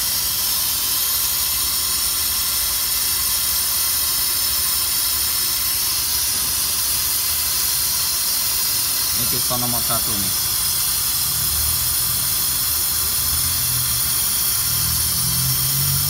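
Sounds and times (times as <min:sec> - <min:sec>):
loud steady hiss: 0:00.0 - 0:16.0.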